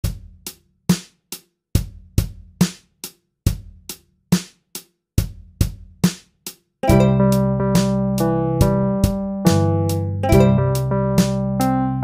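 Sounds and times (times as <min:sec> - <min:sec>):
drum kit beat: 0:00.0 - 0:11.8.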